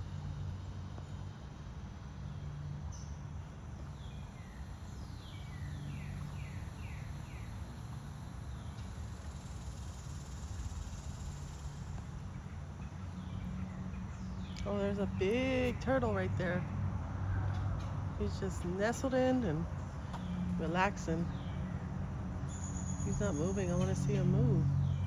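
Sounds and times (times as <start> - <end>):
birdsong: 2.3 - 16.4, 17.5 - 25.0.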